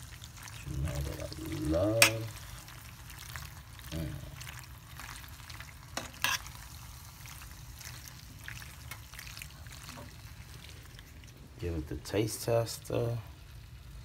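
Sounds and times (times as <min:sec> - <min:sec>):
pasta sauce sizzling in skillet: 0:00.0 - 0:14.0.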